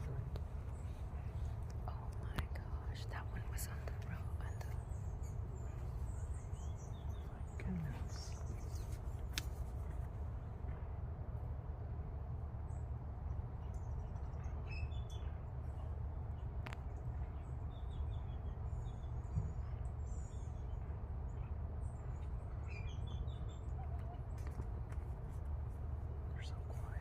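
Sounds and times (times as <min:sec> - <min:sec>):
small birds chirping: 0:00.0 - 0:10.0, 0:13.6 - 0:27.0
steady low rumble: 0:00.0 - 0:27.0.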